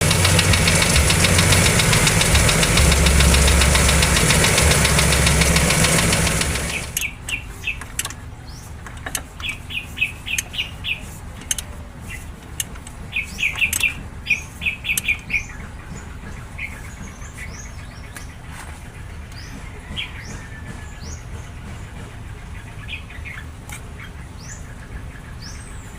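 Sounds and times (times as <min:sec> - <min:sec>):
car engine knocking: 0:00.0 - 0:18.4, 0:19.0 - 0:23.6
small birds chirping: 0:00.0 - 0:25.9.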